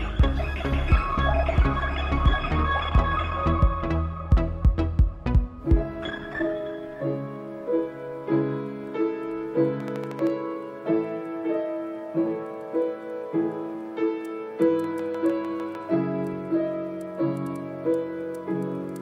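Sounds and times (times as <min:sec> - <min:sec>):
piano-like keyboard chords: 0:00.0 - 0:19.0.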